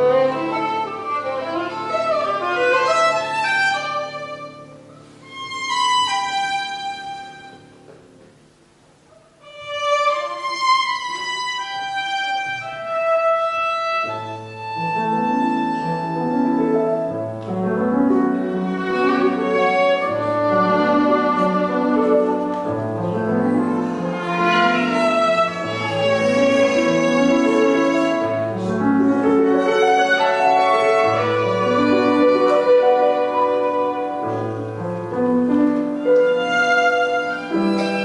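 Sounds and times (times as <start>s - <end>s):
solo violin melody: 0.0s - 8.0s, 9.4s - 38.0s.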